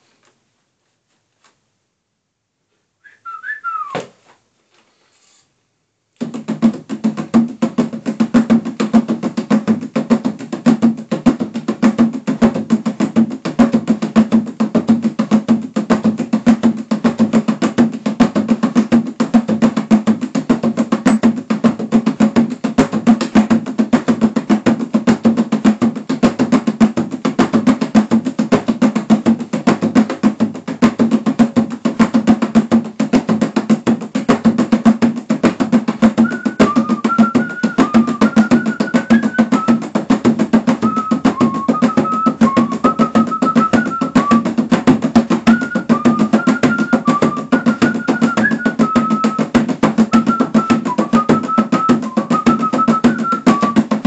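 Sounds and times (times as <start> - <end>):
hand drum played: 6.2 - 54.0.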